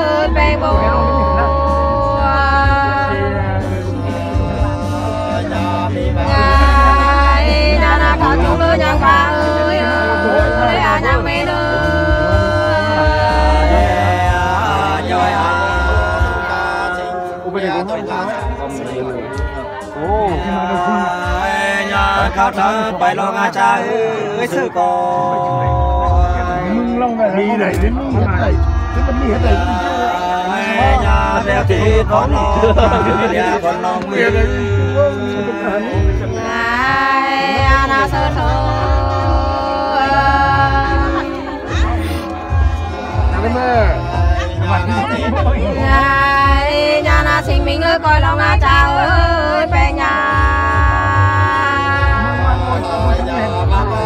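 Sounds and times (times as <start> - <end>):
voices singing unaccompanied: 0.0 - 54.0.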